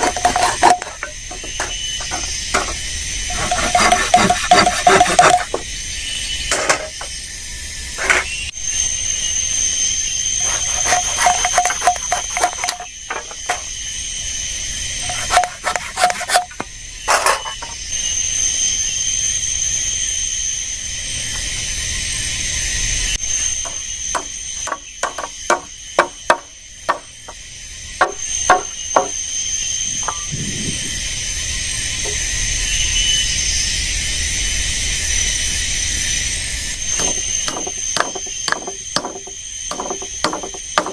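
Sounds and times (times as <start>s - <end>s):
high-pitched drone: 0.0s - 40.9s.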